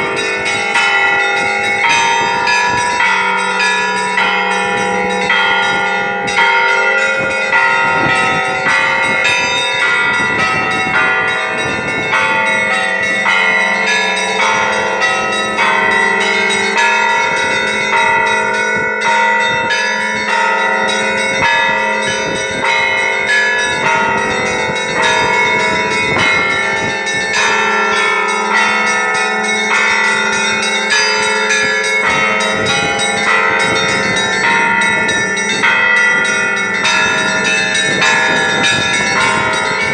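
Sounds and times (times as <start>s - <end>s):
large bell low hum: 0.0s - 39.9s
small church bells pealing: 0.0s - 39.9s.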